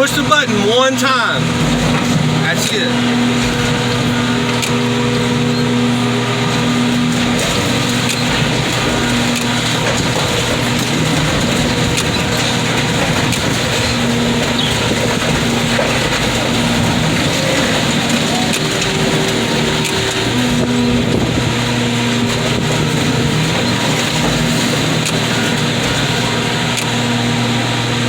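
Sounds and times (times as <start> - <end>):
car body cracking and crunching: 0.0 - 28.0
hydraulic power unit humming: 0.0 - 28.0.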